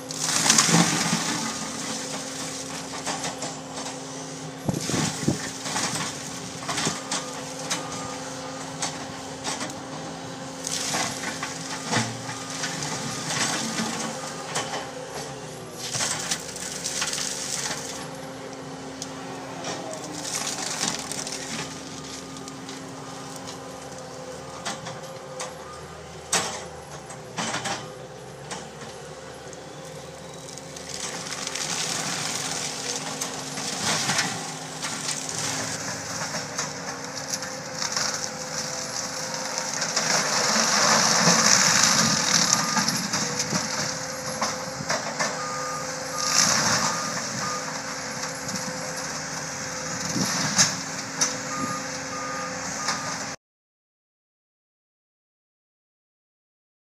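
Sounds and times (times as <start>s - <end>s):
loader engine humming: 0.0s - 53.4s
mulcher grinding trees: 0.0s - 53.4s.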